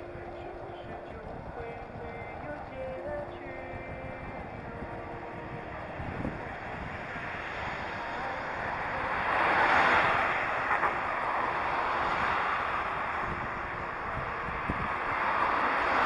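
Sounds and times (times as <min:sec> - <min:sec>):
bicycle road noise: 0:00.0 - 0:16.0
rushing wind: 0:00.0 - 0:16.0.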